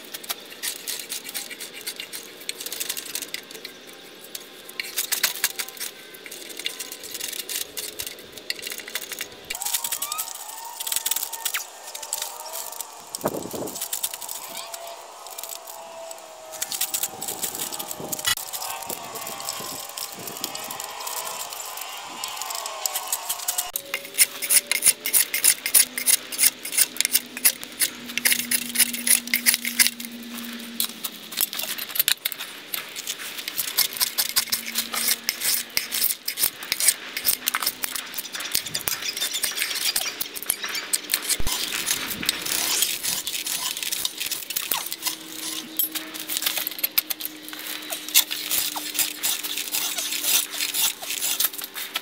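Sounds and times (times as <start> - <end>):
hand tools scraping on metal: 0.1 - 52.0.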